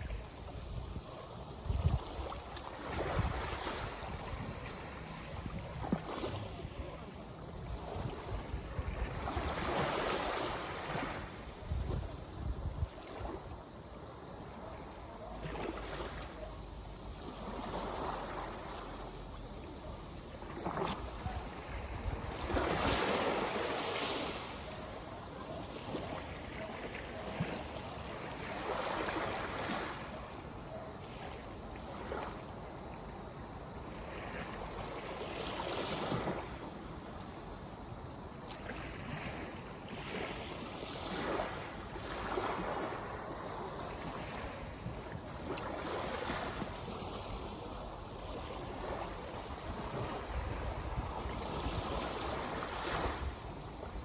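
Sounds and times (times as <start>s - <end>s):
sea waves breaking on shore: 0.0s - 13.7s, 20.3s - 54.0s.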